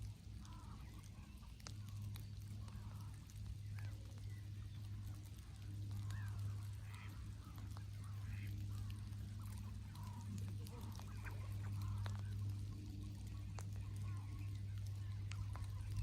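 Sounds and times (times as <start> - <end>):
ducks and swans calling: 0.0 - 16.0
steady low hum: 0.0 - 16.0.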